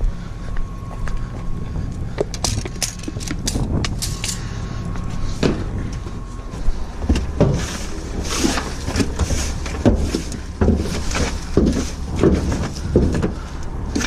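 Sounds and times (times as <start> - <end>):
low vehicle rumble: 0.0 - 14.0
trimmings rustling and scraping: 1.1 - 14.0.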